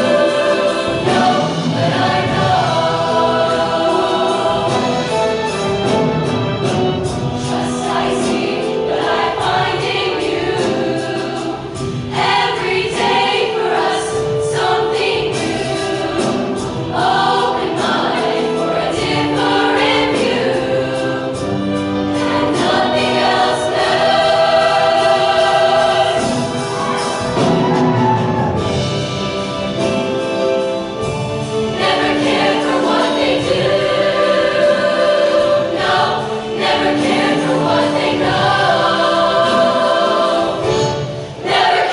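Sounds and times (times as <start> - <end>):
choir singing in chorus: 0.0 - 41.9.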